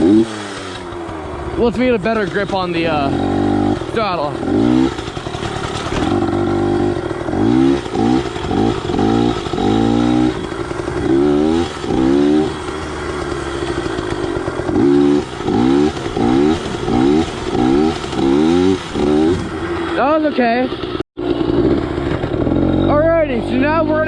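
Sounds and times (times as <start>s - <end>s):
pit bike engine revving: 0.0s - 24.0s.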